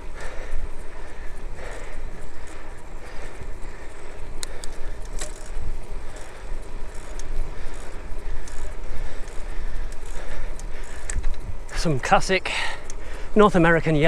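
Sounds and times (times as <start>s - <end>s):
bicycle rolling noise: 0.0s - 14.0s
sharp clicks and rattles: 0.2s - 14.0s.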